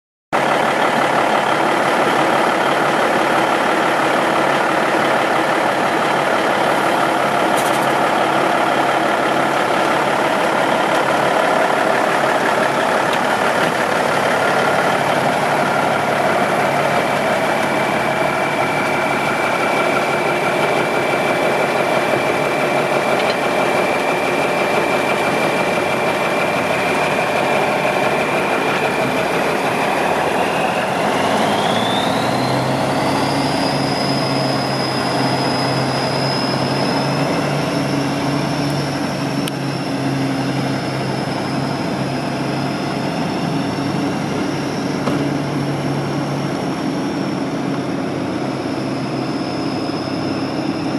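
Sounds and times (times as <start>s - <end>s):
diesel truck engine: 0.4s - 50.9s
high whine: 0.4s - 50.9s.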